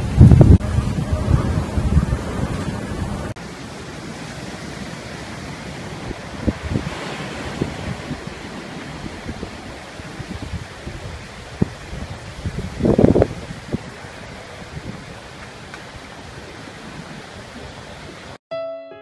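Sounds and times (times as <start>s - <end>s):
wind rumbling on microphone: 0.0s - 3.4s, 5.6s - 18.4s
surf rushing: 0.0s - 18.4s.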